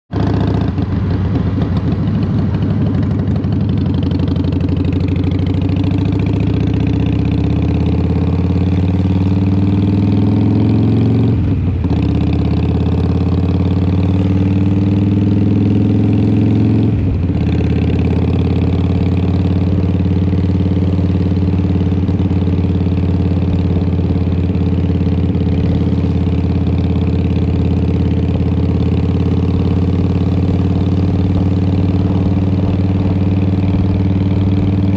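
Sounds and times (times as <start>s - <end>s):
motorcycle engine shifting gears: 0.1s - 34.9s.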